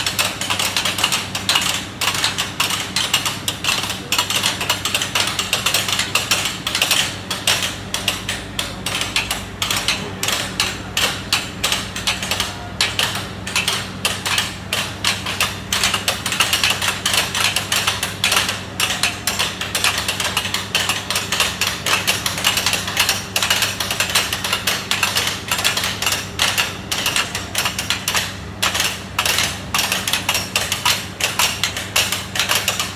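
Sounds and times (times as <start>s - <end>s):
metallic knocks and clicks: 0.0s - 32.9s.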